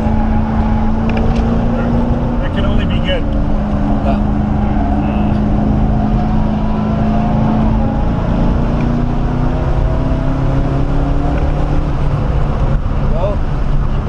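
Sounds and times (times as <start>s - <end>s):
car engine from inside cabin: 0.0s - 14.0s.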